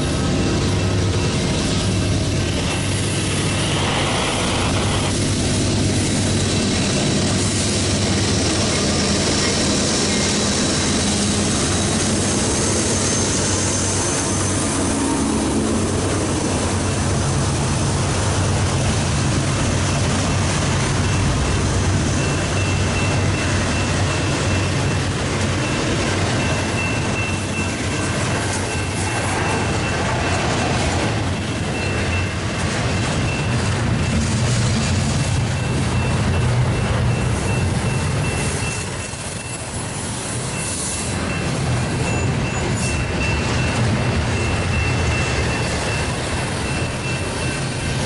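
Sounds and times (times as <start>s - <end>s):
diesel locomotives running: 0.0s - 48.0s
train wheels on rails: 0.0s - 48.0s.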